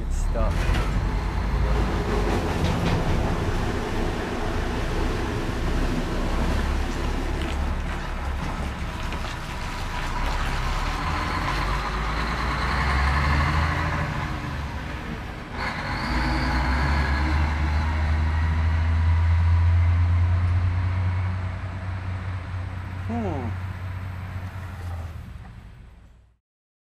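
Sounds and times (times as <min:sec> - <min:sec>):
truck diesel engine rumbling: 0:00.0 - 0:26.3.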